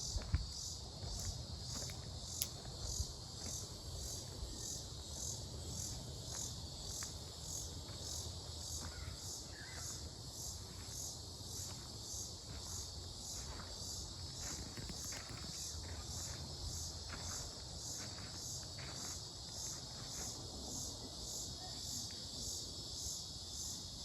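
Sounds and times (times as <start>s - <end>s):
faint high insect whine: 0.0s - 24.0s
pulsing insect chorus: 0.0s - 24.0s.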